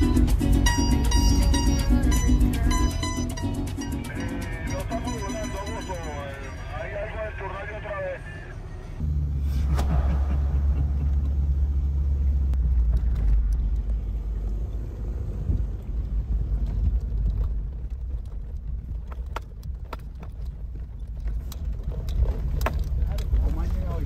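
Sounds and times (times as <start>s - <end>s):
vehicle rumble from inside cab: 0.0s - 24.0s.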